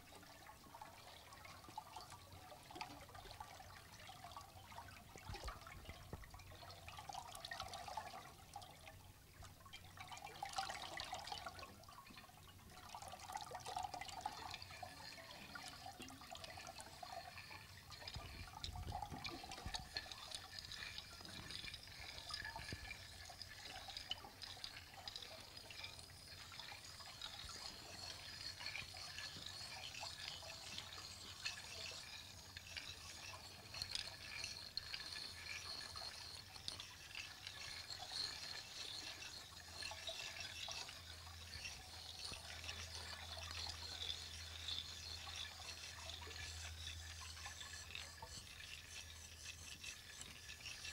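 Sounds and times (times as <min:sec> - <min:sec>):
water trickling into basins: 0:00.0 - 0:50.9.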